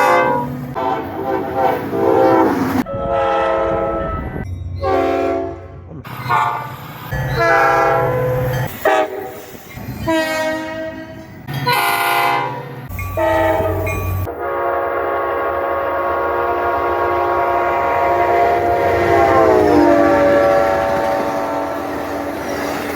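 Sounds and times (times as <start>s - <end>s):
short locomotive horn blasts: 0.0s - 6.7s, 7.3s - 9.4s, 10.0s - 22.6s
long multi-tone locomotive horn: 0.0s - 22.9s.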